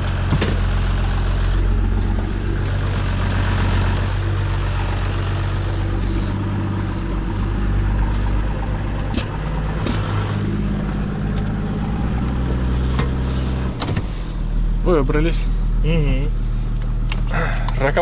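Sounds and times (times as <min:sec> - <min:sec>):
off-road vehicle engine running: 0:00.0 - 0:18.0.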